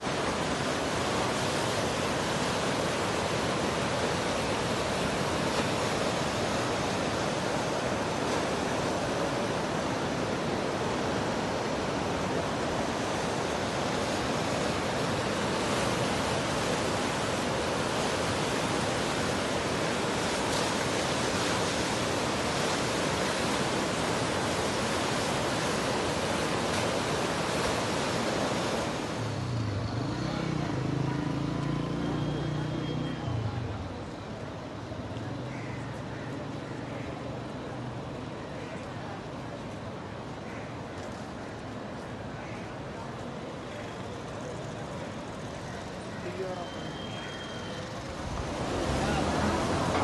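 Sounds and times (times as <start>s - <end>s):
rushing floodwater: 0.0s - 50.0s.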